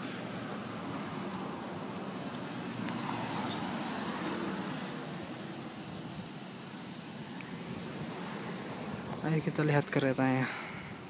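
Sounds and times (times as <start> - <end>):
high-pitched insect chorus: 0.0 - 11.0
road traffic hum: 0.0 - 11.0.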